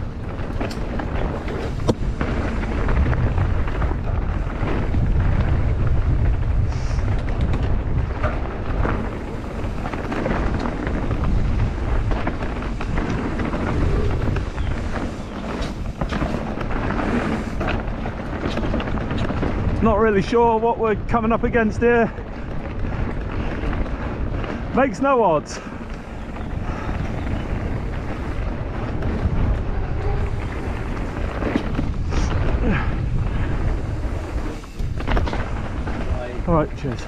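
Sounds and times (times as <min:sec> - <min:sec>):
bike rattling over rocks: 0:00.0 - 0:37.0
wind rumbling on microphone: 0:00.0 - 0:37.0.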